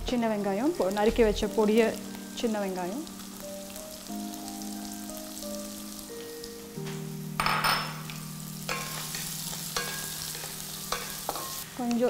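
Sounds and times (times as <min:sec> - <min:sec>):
background music with held notes: 0:00.0 - 0:12.0
shallots sizzling in oil: 0:00.0 - 0:12.0.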